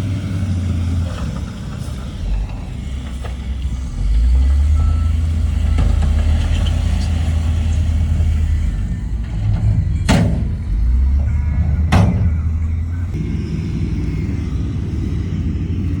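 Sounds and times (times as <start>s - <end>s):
heavy diesel machinery rumbling: 0.0s - 16.0s.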